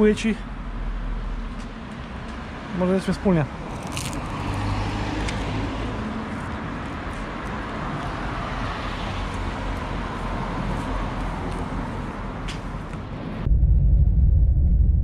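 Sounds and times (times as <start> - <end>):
motor vehicle hum and hiss: 0.0 - 13.5.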